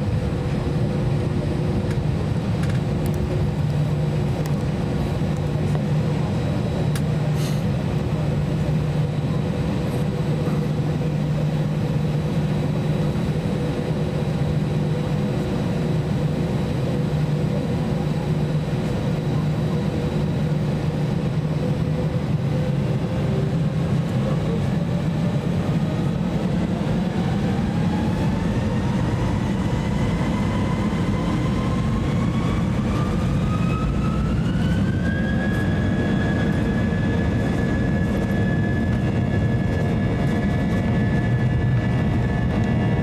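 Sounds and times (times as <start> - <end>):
jet engine whine: 0.0 - 43.0.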